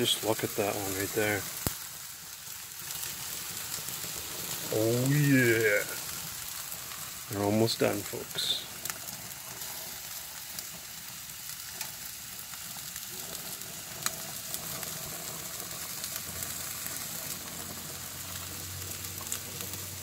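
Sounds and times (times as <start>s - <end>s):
meat sizzling on grill: 0.0s - 20.0s.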